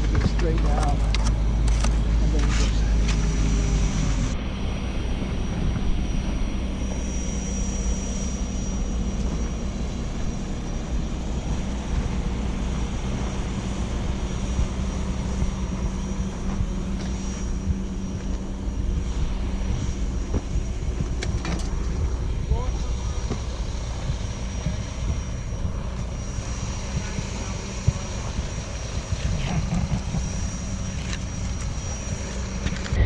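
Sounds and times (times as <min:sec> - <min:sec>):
diesel engine droning: 0:00.0 - 0:33.0
faint high whine: 0:00.0 - 0:33.0.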